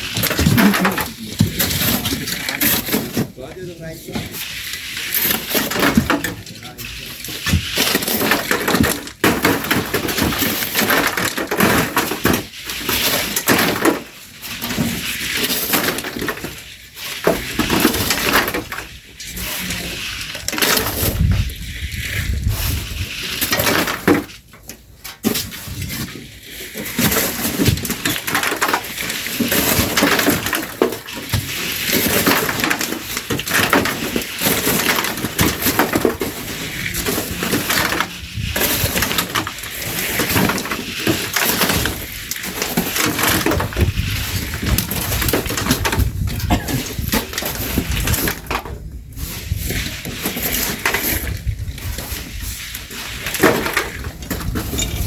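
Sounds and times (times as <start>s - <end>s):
shovels scraping sand and gravel: 0.0s - 55.0s.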